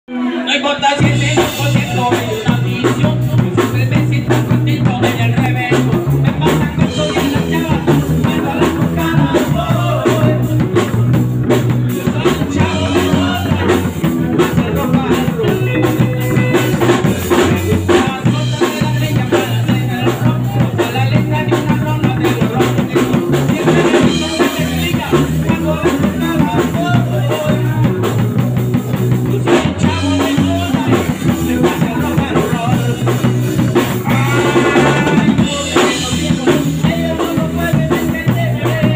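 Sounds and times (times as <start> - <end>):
electric guitar: 0.1 - 38.9
person singing: 0.1 - 38.9
drum kit beat: 0.8 - 38.9
electric bass: 0.8 - 38.9.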